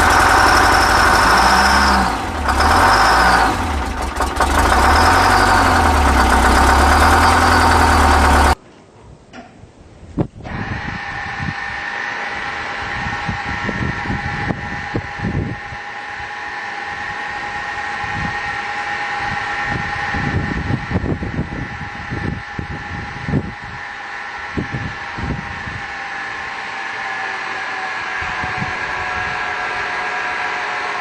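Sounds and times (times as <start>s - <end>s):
diesel engine chugging with whine: 0.0s - 8.6s, 10.4s - 31.0s.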